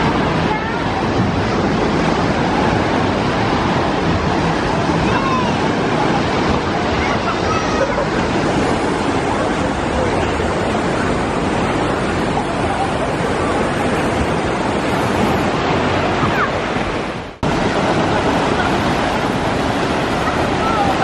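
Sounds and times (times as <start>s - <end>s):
faint voices of swimmers: 0.0s - 15.4s, 17.6s - 21.0s
waves breaking in shallows: 0.0s - 21.0s.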